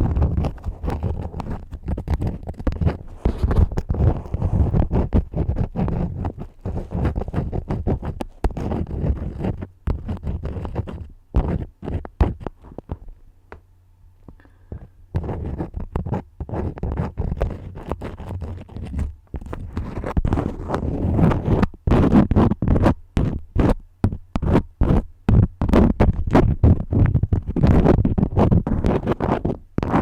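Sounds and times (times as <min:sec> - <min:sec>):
crayons scribbling: 0:00.0 - 0:13.0, 0:14.8 - 0:30.0.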